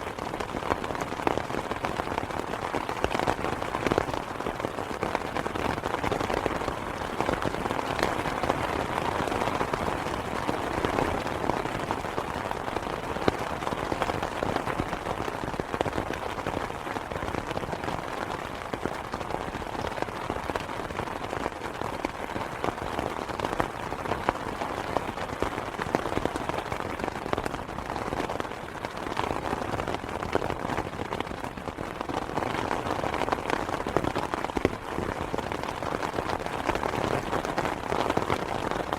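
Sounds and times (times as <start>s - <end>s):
rain on an umbrella: 0.0s - 38.9s.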